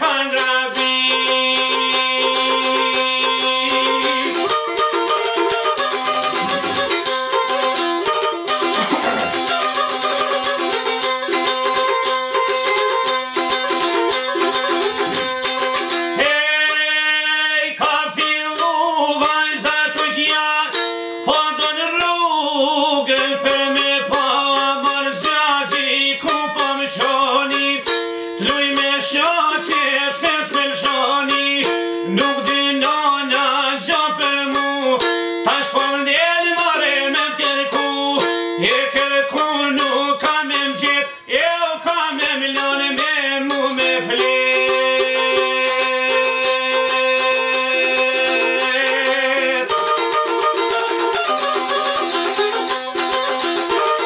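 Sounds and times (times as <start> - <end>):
man singing: 0.0 - 7.9, 8.6 - 54.0.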